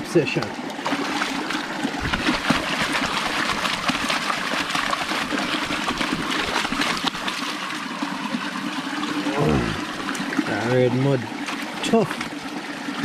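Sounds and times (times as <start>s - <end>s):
stream water splashing over boot: 0.4s - 13.0s.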